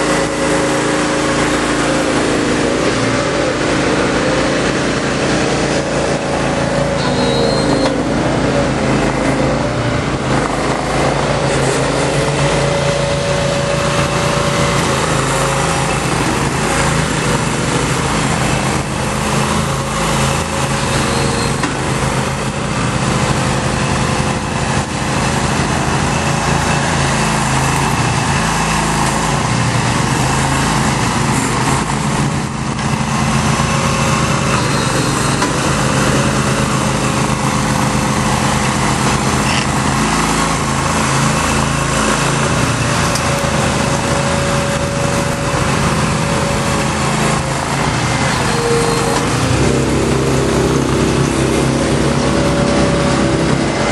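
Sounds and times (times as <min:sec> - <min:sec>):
machine engines running: 0:00.0 - 0:53.9.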